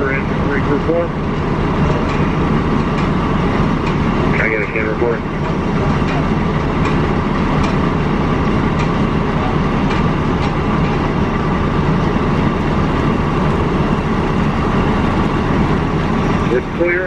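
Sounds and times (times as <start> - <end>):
heavy engine droning: 0.0 - 17.0.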